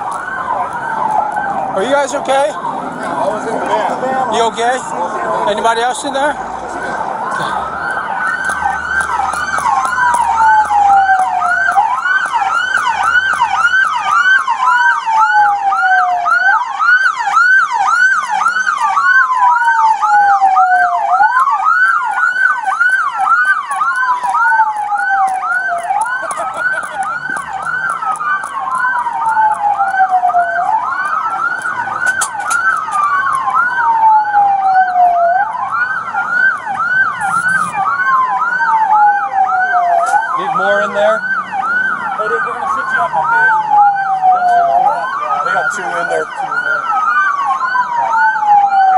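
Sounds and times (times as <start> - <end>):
siren wail: 0.0 - 48.9
siren yelp: 0.0 - 48.9.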